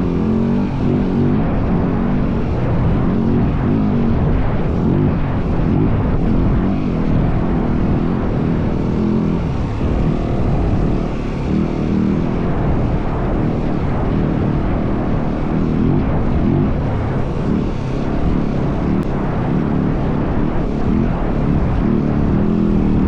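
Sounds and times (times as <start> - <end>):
dirt bike engine running: 0.0 - 23.0
wind noise: 0.0 - 23.0.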